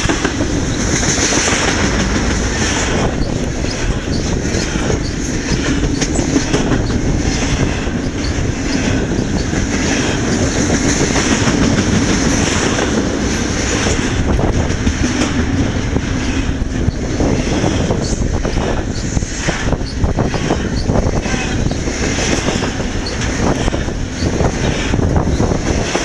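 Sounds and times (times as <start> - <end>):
freight train rumbling past: 0.0 - 26.0
wheels clicking on track: 0.0 - 26.0.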